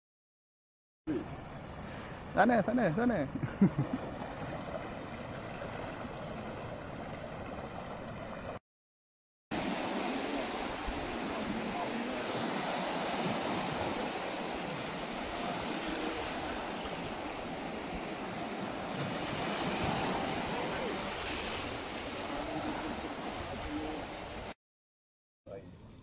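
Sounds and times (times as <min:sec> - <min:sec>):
waves breaking on beach: 0:01.1 - 0:08.6, 0:09.5 - 0:24.6.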